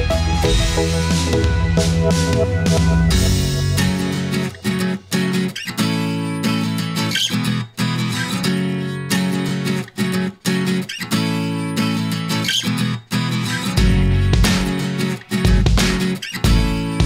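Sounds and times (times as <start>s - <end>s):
strummed guitar chords: 0.0s - 17.0s.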